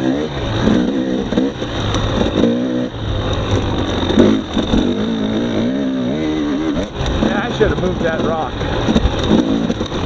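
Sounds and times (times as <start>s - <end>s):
two-stroke motorbike engine revving: 0.0s - 10.0s.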